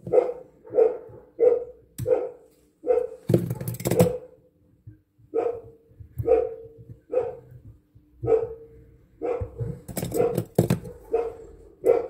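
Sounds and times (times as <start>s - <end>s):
dog barking: 0.0s - 4.4s, 5.3s - 7.6s, 8.2s - 12.0s.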